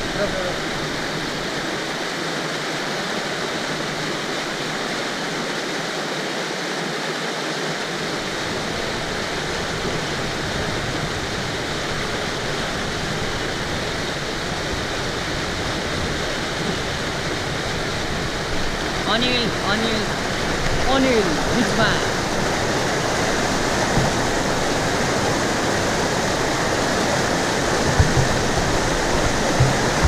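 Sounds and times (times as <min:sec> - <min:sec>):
river rapids rushing over boulders: 0:00.0 - 0:30.0.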